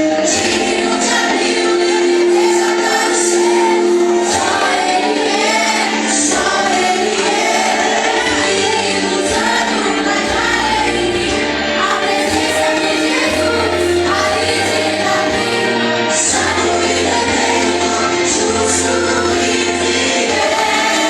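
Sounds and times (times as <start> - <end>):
group singing worship song: 0.0 - 21.0
instrumental backing: 0.0 - 21.0.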